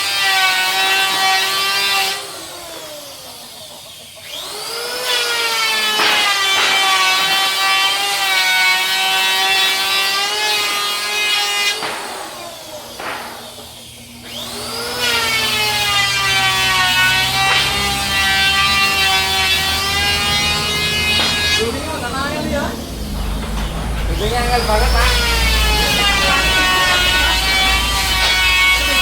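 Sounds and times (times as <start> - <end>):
electric power saw cutting wood: 0.0 - 29.0.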